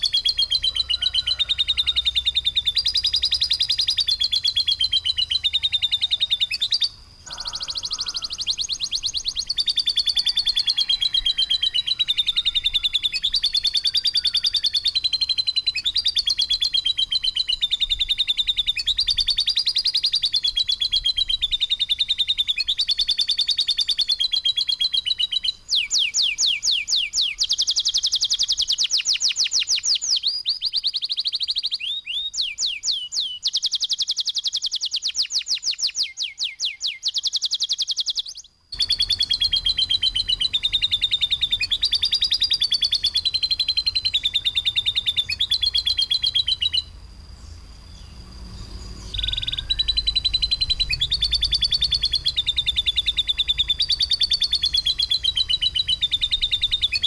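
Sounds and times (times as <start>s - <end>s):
songbird trilling: 0.0s - 57.0s.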